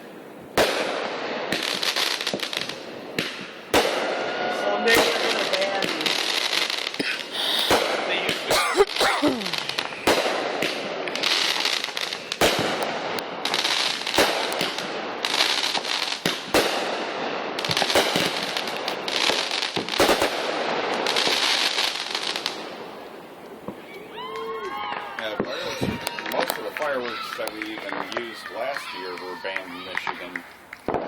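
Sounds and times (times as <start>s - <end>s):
firework bangs: 0.0s - 31.0s
firework crackling: 0.0s - 31.0s.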